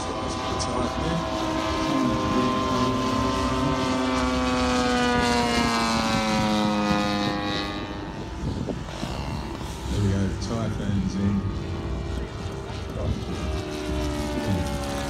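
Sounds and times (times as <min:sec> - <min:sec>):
model plane engine flying past: 0:00.0 - 0:15.0.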